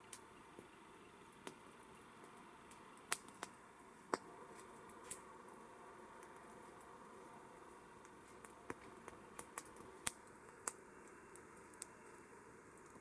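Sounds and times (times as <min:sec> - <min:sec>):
campfire crackling and popping: 0:00.0 - 0:13.0
faint steady hiss: 0:00.0 - 0:13.0.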